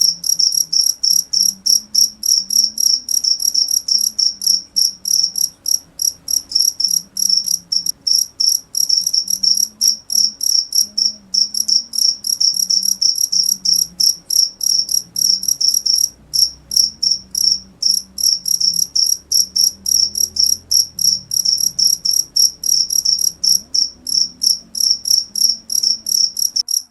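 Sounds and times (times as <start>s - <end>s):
cricket chirping: 0.0s - 26.9s.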